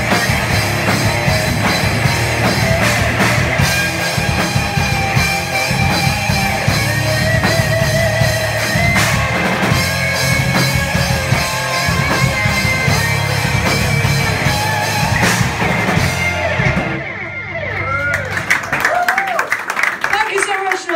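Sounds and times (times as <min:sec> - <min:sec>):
drum kit and cymbals: 0:00.0 - 0:17.1
distorted electric guitars: 0:00.0 - 0:18.5.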